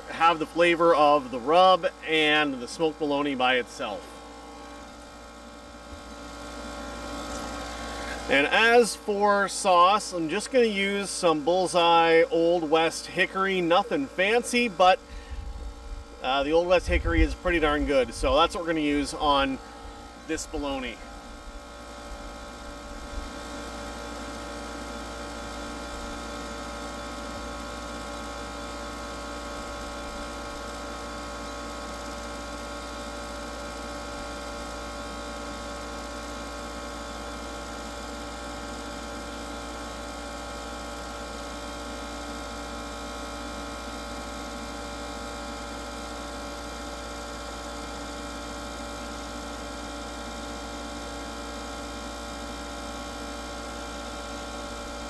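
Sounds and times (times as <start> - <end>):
fan humming: 0.0 - 55.0.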